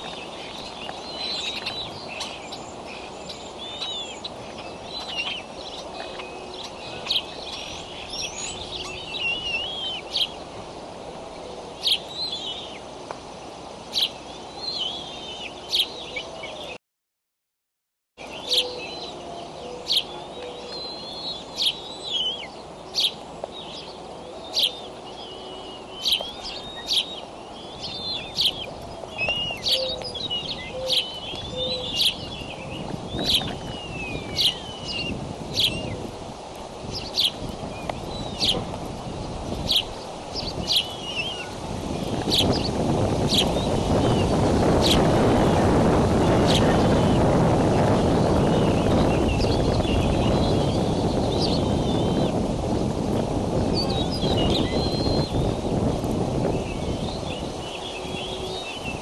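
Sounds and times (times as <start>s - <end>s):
birds chirping and calling: 0.0s - 10.5s, 11.4s - 12.9s, 13.9s - 16.8s, 18.2s - 52.9s, 53.6s - 59.0s
outdoor background hiss: 0.0s - 16.8s, 18.2s - 59.0s.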